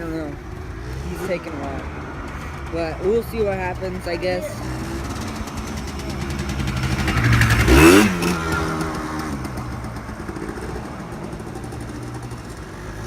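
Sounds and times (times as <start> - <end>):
engine revving and idling: 0.0 - 13.0.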